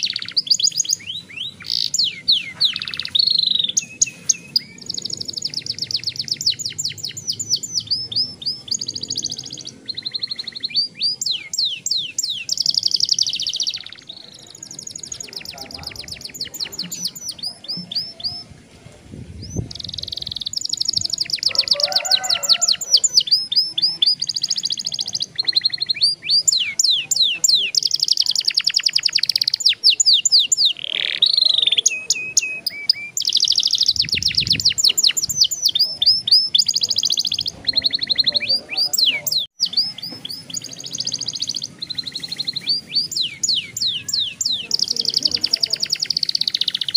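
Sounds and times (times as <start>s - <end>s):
canary singing trills: 0.0s - 18.6s, 19.4s - 46.9s.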